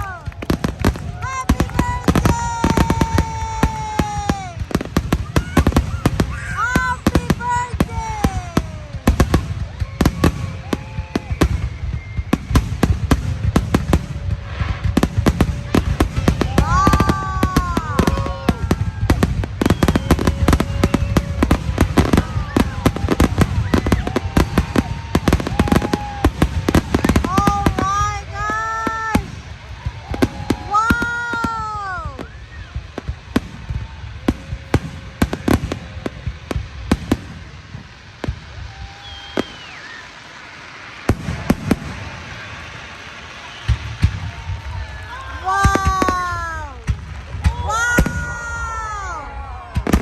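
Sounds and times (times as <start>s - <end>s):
fireworks crackling: 0.0s - 50.0s
whistling fireworks: 0.0s - 50.0s.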